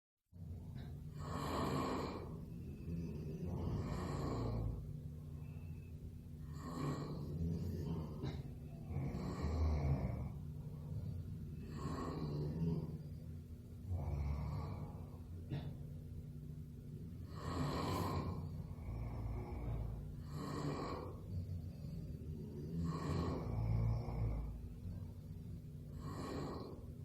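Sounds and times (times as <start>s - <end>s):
steady low hum: 0.3s - 27.0s
person snoring: 0.8s - 5.8s, 6.4s - 15.7s, 17.0s - 27.0s.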